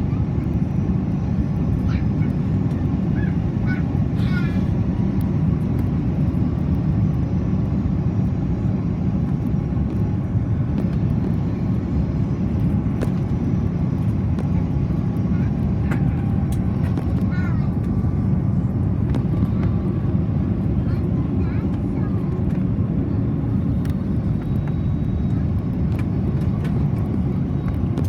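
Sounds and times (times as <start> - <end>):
airliner cabin engine drone: 0.0 - 28.0.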